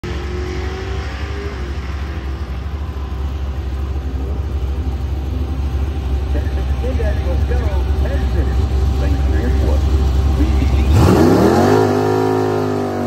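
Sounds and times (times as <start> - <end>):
car engine idling: 1.4 - 13.0.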